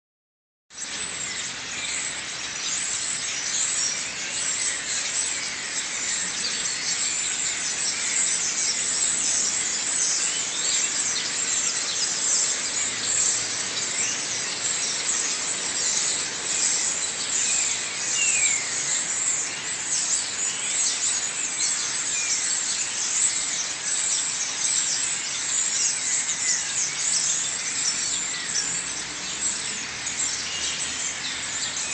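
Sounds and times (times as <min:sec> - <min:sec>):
flock of birds chirping: 0:00.7 - 0:31.9.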